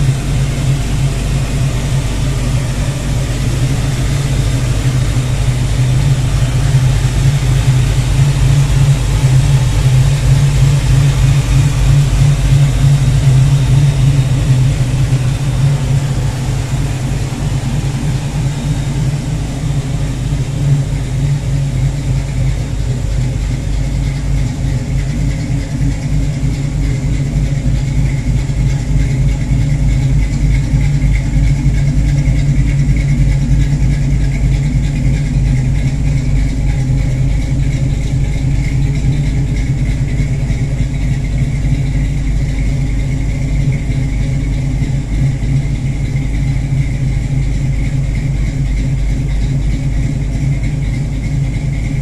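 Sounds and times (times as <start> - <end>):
pickup engine idling: 0.0 - 52.0.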